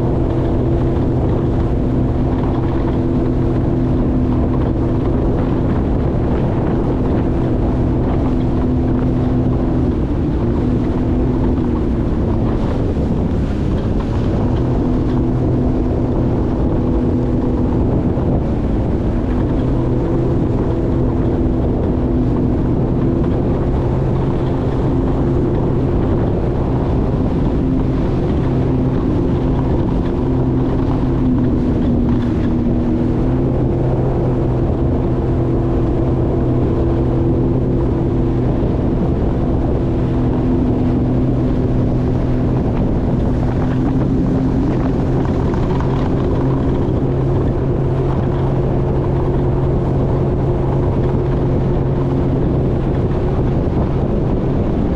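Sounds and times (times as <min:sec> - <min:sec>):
jet ski engine running: 0:00.0 - 0:54.9.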